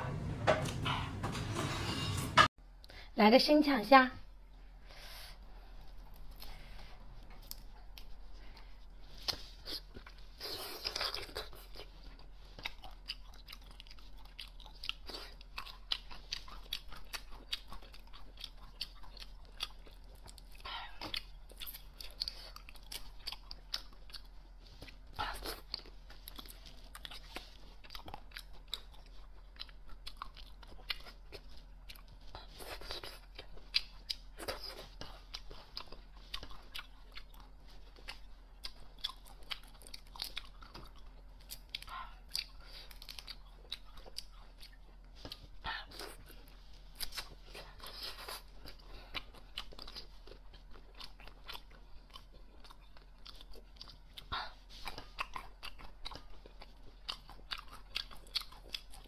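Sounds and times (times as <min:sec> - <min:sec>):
chewing and biting: 0:07.3 - 0:59.0.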